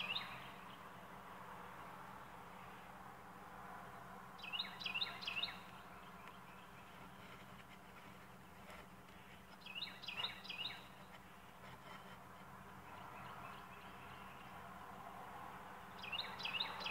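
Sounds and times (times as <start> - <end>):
faint steady hum: 0.0 - 16.9
songbird singing: 0.0 - 16.9.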